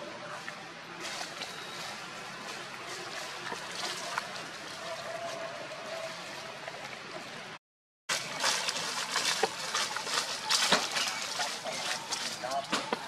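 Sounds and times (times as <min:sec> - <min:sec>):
dry leaves crackling underfoot: 0:00.2 - 0:06.6, 0:08.1 - 0:13.0.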